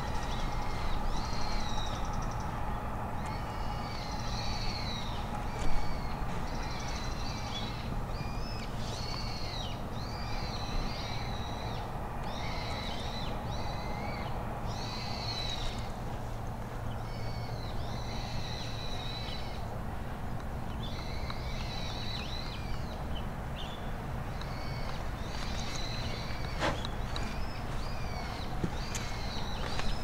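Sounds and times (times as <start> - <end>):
birds high-pitched calls: 0.0 - 30.0
low background hum: 0.0 - 30.0.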